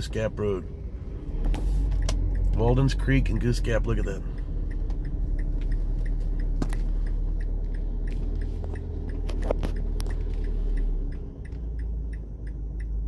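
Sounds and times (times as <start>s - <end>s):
engine and road rumble: 0.0s - 13.0s
faint regular ticking: 0.0s - 13.0s.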